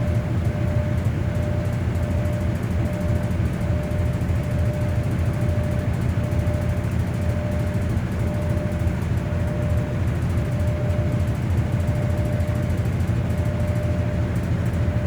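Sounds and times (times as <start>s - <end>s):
washing machine spinning: 0.0s - 15.0s.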